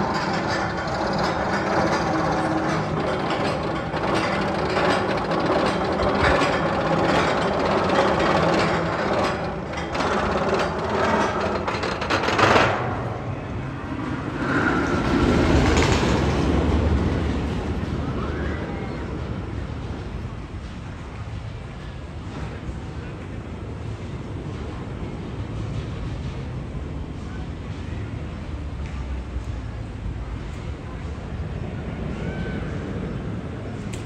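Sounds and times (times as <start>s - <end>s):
roller coaster clattering on track: 0.0s - 34.0s.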